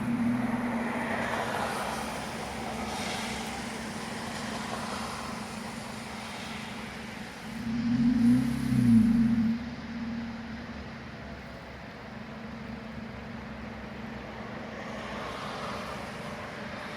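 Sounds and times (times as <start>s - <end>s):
car engine running steadily: 0.0s - 16.9s.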